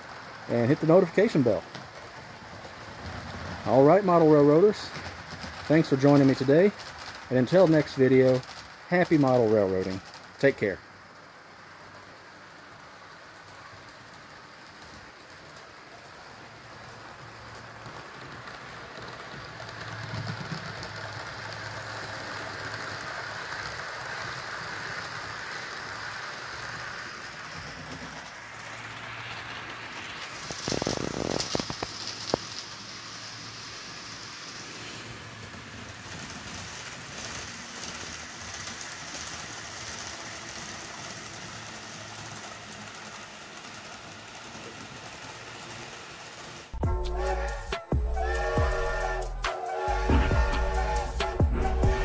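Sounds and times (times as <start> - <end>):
model train wheels rattling: 0.0 - 47.6.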